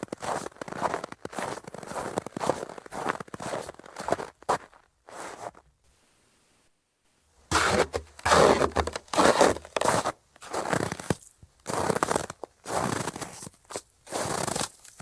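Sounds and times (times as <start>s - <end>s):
boots crunching in snow: 0.0s - 5.6s, 7.5s - 15.0s.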